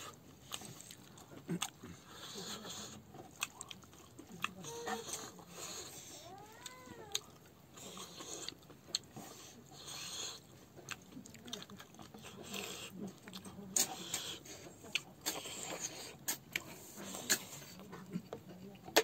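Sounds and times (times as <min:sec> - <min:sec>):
chewing and lip-smacking: 0:00.0 - 0:19.0.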